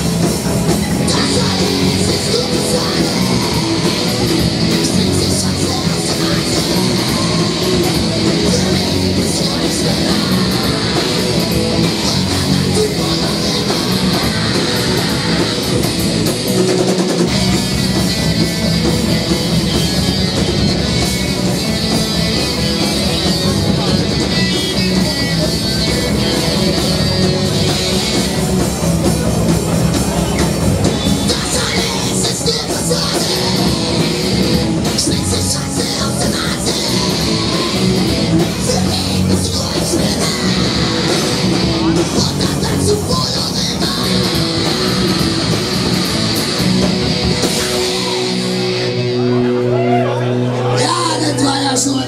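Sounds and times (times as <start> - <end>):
drum kit: 0.0 - 50.1
electric guitar: 0.0 - 52.0.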